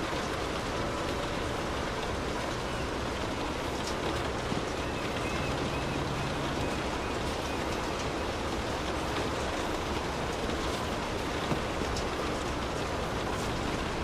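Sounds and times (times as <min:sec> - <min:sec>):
light rain on car roof: 0:00.0 - 0:14.0.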